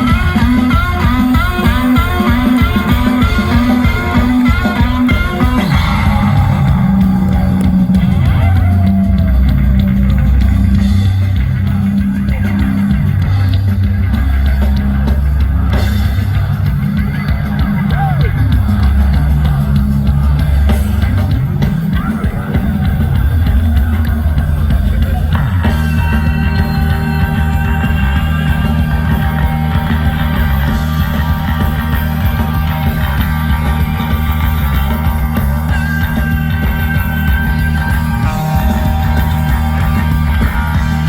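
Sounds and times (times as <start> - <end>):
drums: 0.0 - 41.0
heavy bass line: 0.0 - 41.0.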